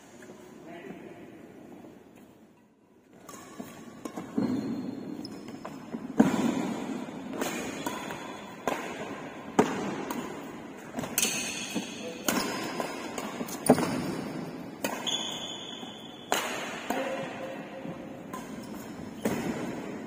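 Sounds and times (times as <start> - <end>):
rackets hitting shuttlecock: 3.1 - 20.0.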